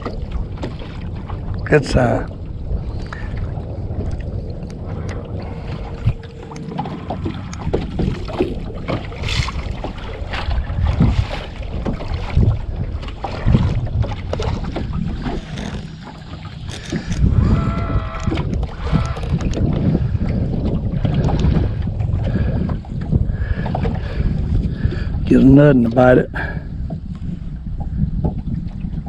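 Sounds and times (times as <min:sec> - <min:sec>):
knocks and clatter in boat: 0:00.0 - 0:29.0
wind on microphone: 0:00.0 - 0:29.0.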